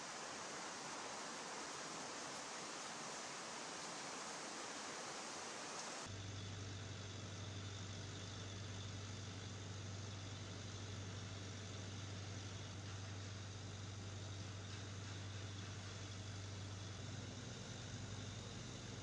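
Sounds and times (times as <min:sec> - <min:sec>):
faint hiss: 0:00.0 - 0:19.0
steady low hum: 0:00.0 - 0:19.0.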